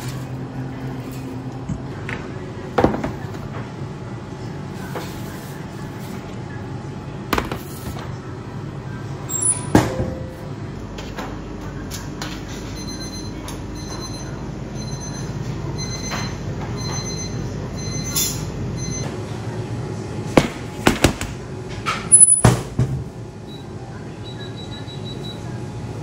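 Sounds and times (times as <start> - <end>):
kitchen machinery humming: 0.0 - 26.0.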